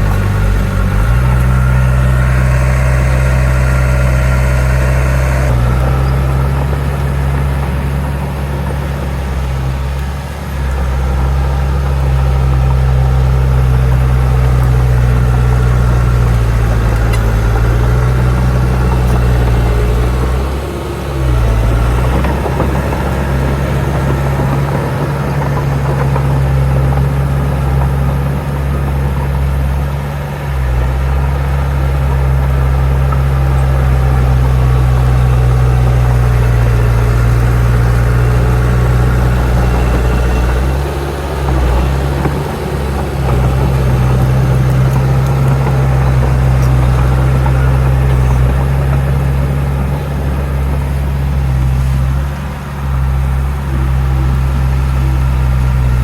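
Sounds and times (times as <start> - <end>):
heavy diesel machinery engine hum: 0.0 - 56.0.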